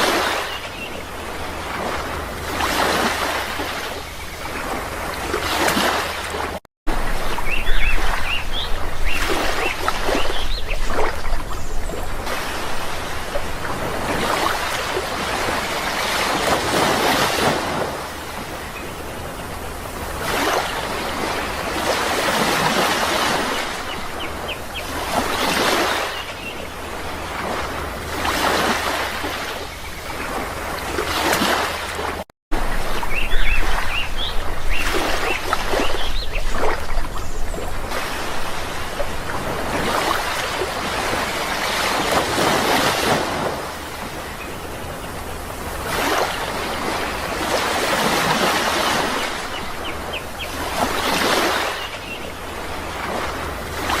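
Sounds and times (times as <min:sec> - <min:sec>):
sea waves washing on shore: 0:00.0 - 0:54.0.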